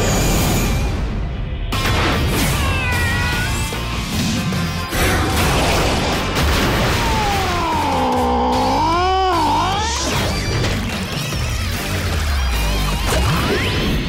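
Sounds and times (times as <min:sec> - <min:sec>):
film trailer music: 0:00.0 - 0:14.0.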